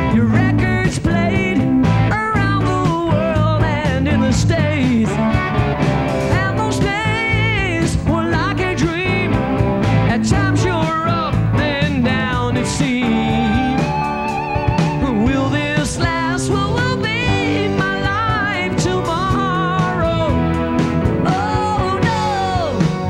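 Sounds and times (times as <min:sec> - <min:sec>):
bass guitar: 0:00.0 - 0:23.0
lead electric guitar: 0:00.0 - 0:23.0
second guitar: 0:00.0 - 0:23.0.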